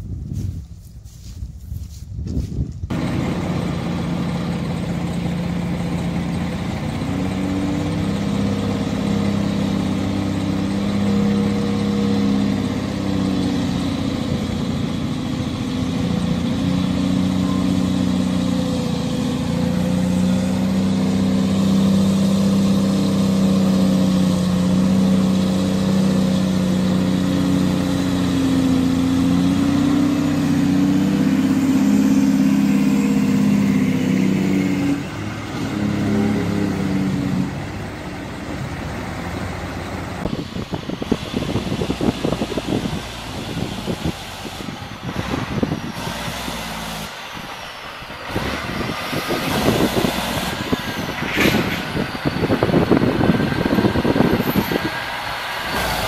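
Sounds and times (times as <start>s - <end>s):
truck diesel engine pulling uphill: 2.8s - 56.0s.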